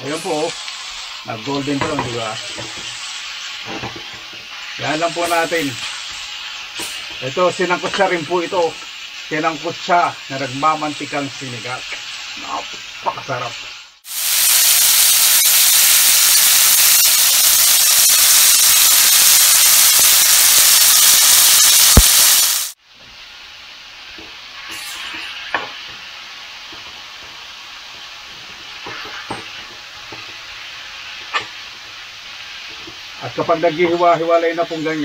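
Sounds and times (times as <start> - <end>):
pork sizzling in a wok: 0.0 - 35.0.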